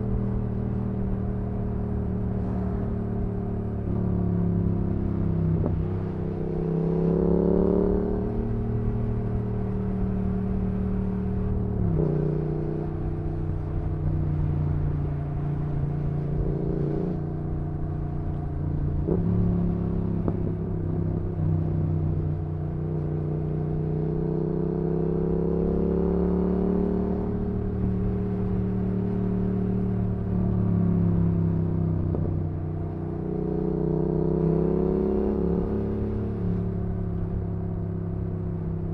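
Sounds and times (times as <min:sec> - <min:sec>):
motorcycle engine revving: 0:03.8 - 0:38.1.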